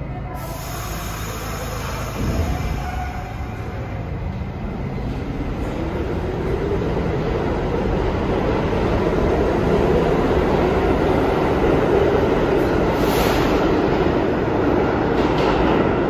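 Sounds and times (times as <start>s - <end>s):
rising train whine: 0.0s - 16.0s
subway train running: 0.0s - 16.0s.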